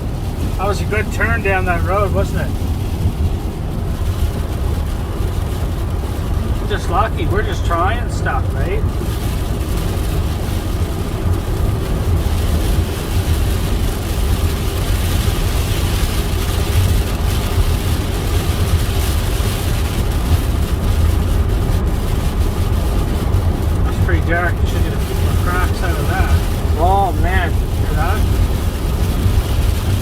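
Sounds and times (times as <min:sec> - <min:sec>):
car road and engine rumble: 0:00.0 - 0:30.0
heavy rain on a car: 0:00.0 - 0:30.0.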